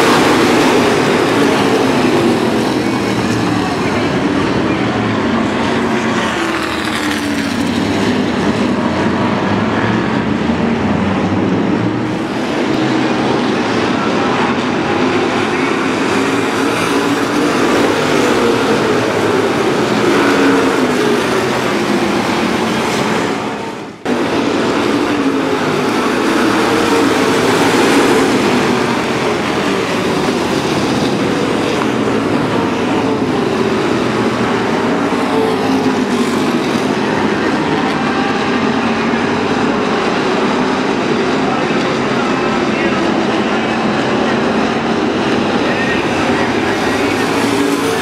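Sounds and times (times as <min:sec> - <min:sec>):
race car engines roaring: 0:00.0 - 0:48.0.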